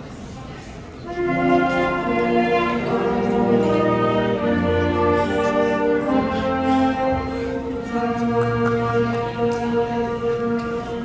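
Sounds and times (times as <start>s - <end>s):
slow ensemble music with held chords: 1.1s - 11.0s.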